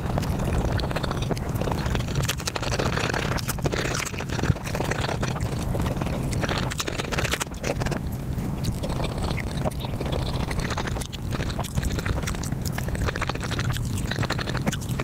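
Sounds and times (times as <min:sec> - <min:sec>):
sped-up chewing sounds: 0:00.0 - 0:15.0.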